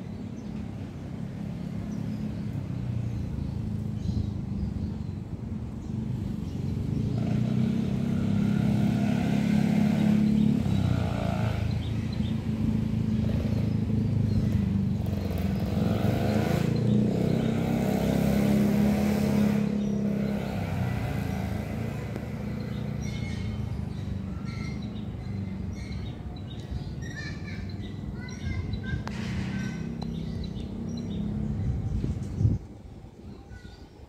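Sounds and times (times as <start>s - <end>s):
vehicle engine running: 0.0s - 32.6s.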